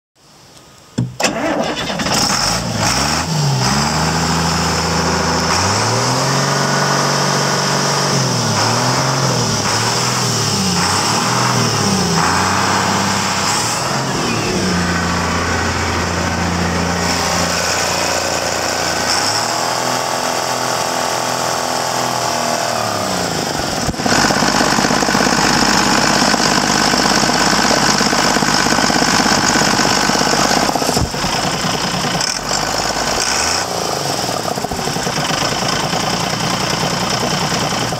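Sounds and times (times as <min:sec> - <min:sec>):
diesel engine starting and revving: 0:01.0 - 0:37.9.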